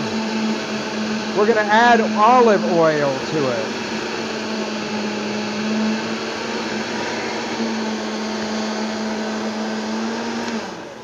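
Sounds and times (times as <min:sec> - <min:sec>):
blender motor whine: 0:00.0 - 0:11.0.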